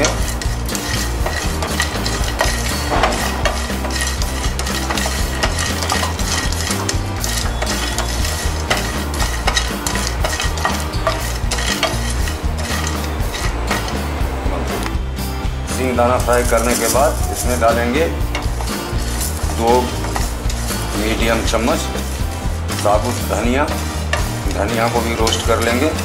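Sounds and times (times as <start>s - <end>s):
peanuts rattling in a frying pan: 0.0s - 14.0s, 15.8s - 26.0s.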